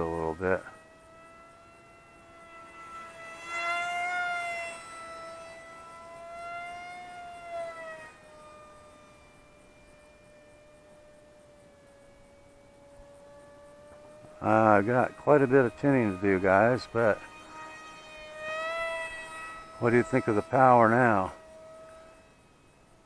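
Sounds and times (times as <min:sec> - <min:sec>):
rc jet electric motor whine: 0:00.0 - 0:23.0.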